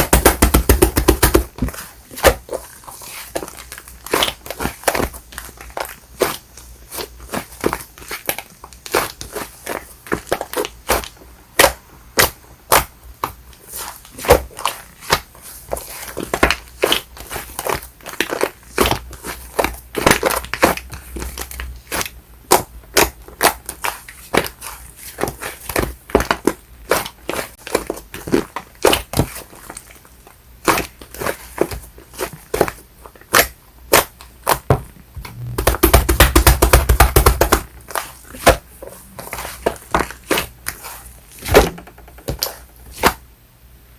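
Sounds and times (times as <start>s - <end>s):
slime squishing with bubble pops: 0.0s - 43.2s
soft crackling of slime: 1.5s - 34.6s, 37.6s - 41.5s.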